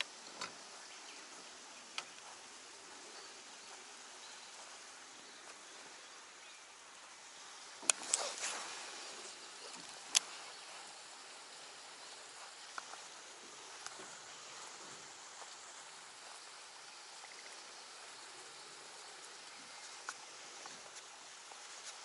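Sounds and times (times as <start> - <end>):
faint outdoor hiss: 0.0 - 22.0.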